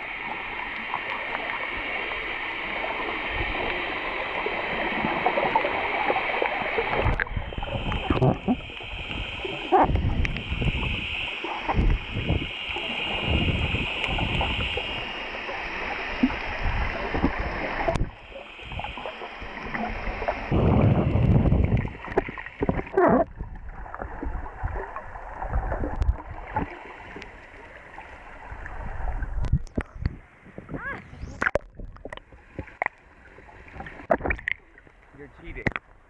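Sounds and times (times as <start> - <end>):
underwater sloshing and gurgling: 0.0 - 36.0.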